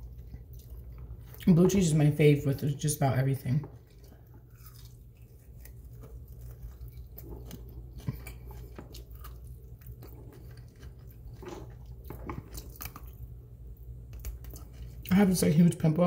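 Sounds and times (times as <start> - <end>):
person chewing: 0.0 - 1.7, 3.5 - 15.1.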